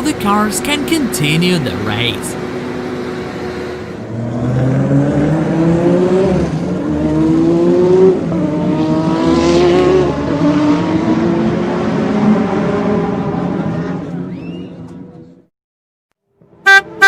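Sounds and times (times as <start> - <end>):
race car engine accelerating: 0.6 - 15.3.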